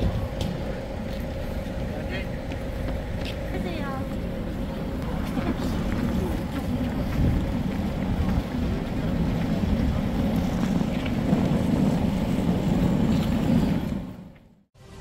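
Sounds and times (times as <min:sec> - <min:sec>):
wind buffeting microphone: 0:00.0 - 0:14.2
bus engine idling: 0:00.0 - 0:14.4.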